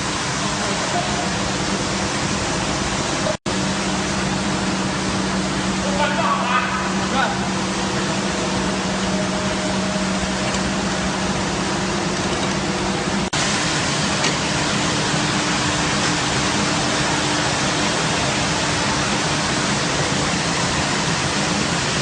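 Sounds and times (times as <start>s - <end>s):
carpet washing machine rushing: 0.0s - 22.0s.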